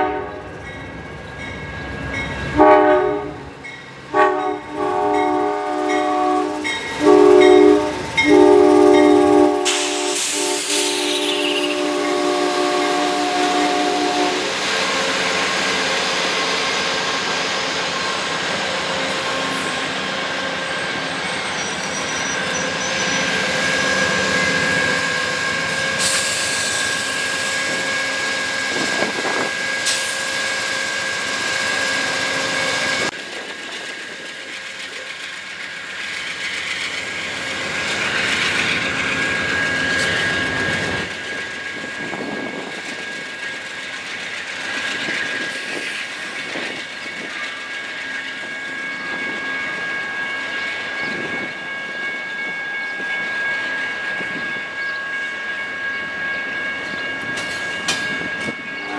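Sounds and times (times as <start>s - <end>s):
high tone from rails: 0.0s - 58.9s
train wheels rumbling on rails: 0.0s - 58.9s.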